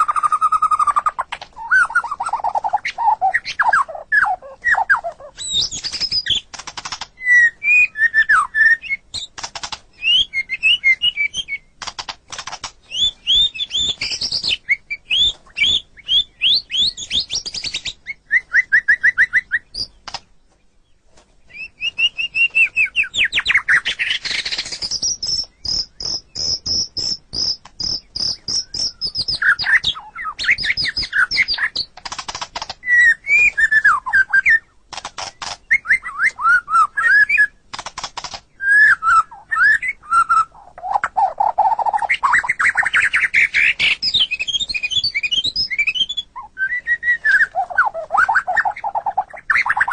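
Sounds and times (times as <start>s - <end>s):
songbird singing whistled phrases: 0.0s - 6.5s, 7.2s - 9.3s, 9.9s - 11.8s, 12.8s - 20.2s, 21.5s - 31.9s, 32.8s - 34.7s, 35.3s - 37.6s, 38.5s - 49.9s
high bird trill: 0.0s - 20.2s, 21.5s - 49.9s.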